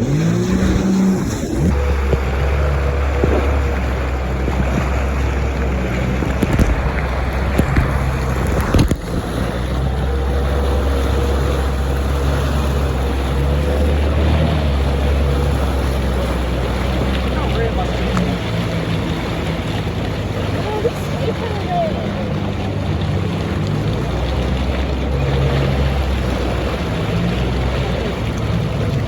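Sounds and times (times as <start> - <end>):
jet ski engine droning: 0.0 - 29.0
wind rush on microphone: 0.0 - 29.0.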